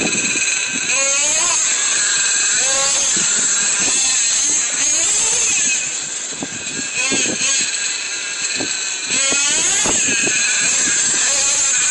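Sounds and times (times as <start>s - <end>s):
rc truck engine revving: 0.0s - 11.9s.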